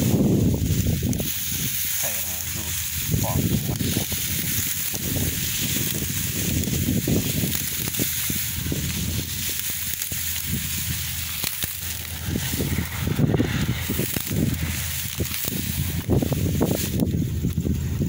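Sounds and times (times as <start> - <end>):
grain stalks crackling and rustling: 0.0 - 18.0.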